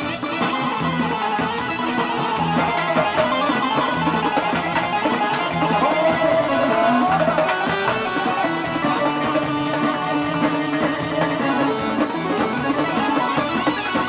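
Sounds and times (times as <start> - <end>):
band playing folk music: 0.0 - 14.0.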